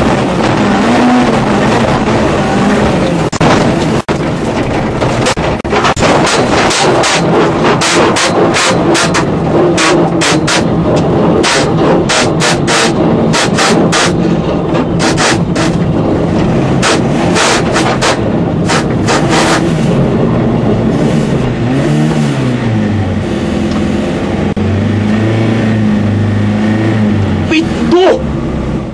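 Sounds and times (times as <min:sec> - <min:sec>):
rally car engine running hard: 0:00.0 - 0:28.9.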